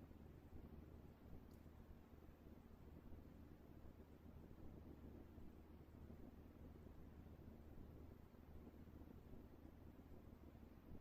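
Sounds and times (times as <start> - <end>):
faint low hum and hiss: 0.0 - 11.0.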